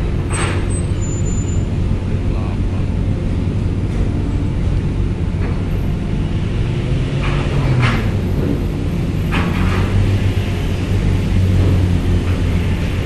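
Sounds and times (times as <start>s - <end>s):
cars driving down steel ramp: 0.0s - 13.0s
ship low hum: 0.0s - 13.0s.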